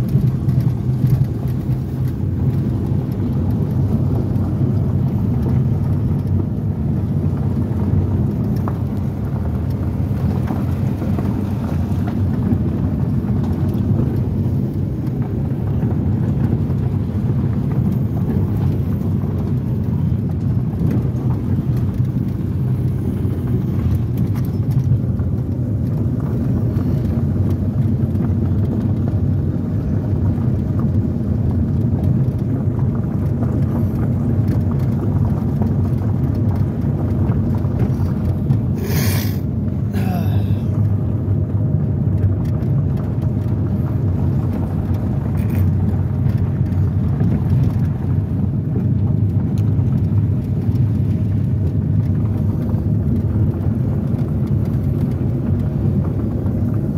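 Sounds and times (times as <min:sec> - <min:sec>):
engine and tyre rumble: 0:00.0 - 0:56.9
gravel clicks: 0:00.0 - 0:56.9.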